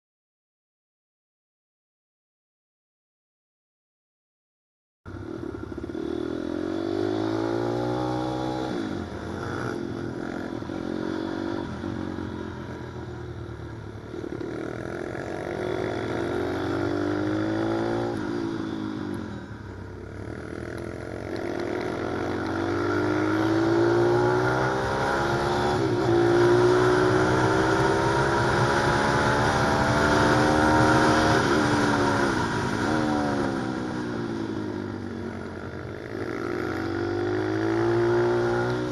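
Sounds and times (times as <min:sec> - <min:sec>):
motorbike engine revving: 0:05.1 - 0:12.4, 0:14.1 - 0:38.9.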